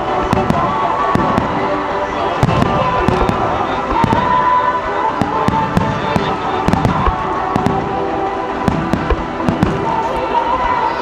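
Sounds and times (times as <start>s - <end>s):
fireworks bangs and crackles: 0.0s - 11.0s
music playing: 0.0s - 11.0s.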